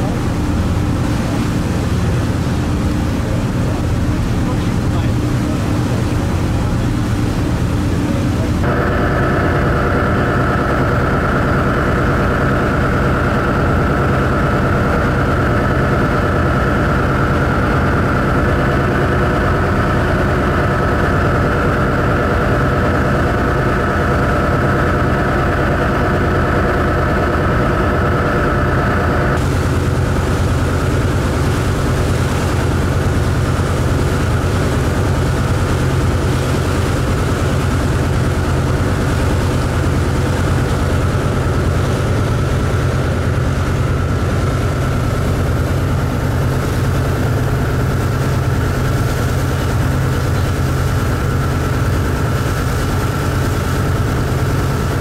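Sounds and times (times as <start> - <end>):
ferry engine drone: 0.0 - 55.0
high engine whine: 0.0 - 55.0
water churning along hull: 0.0 - 55.0.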